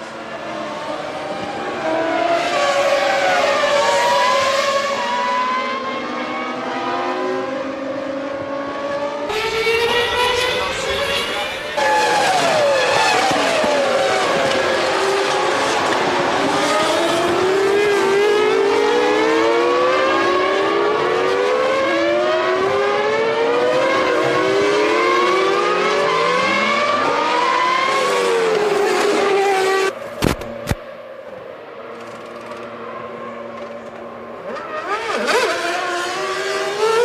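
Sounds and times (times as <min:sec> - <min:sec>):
racing car engines accelerating: 0:00.0 - 0:30.0, 0:31.6 - 0:37.0.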